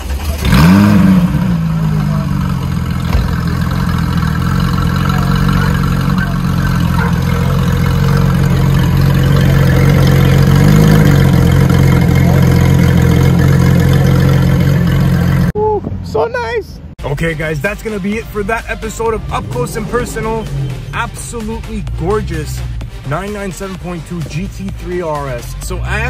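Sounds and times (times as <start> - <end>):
car engine idling: 0.0 - 15.6, 16.8 - 26.0.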